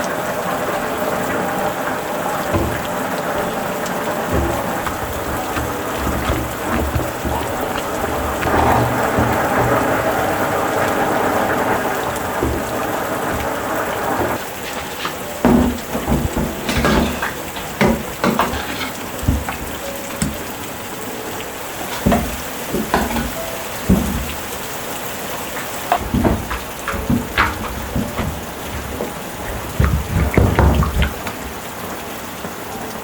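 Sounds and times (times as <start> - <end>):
rain falling: 0.0 - 33.0
drops tapping a surface: 2.4 - 21.0, 21.8 - 31.8.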